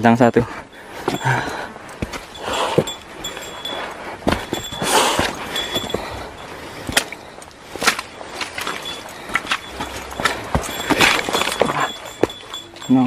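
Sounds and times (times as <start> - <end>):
leaves rustling: 0.5 - 13.0
boots stepping on rocky trail: 0.8 - 12.6.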